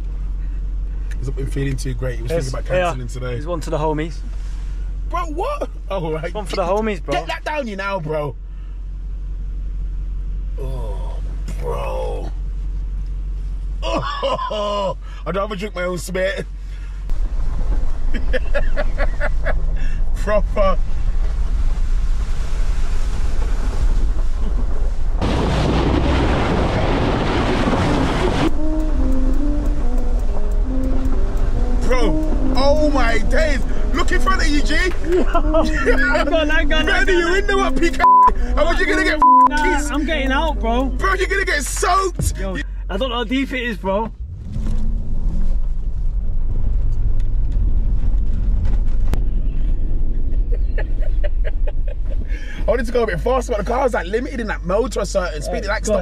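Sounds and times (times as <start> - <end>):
car engine low rumble: 0.0 - 56.0.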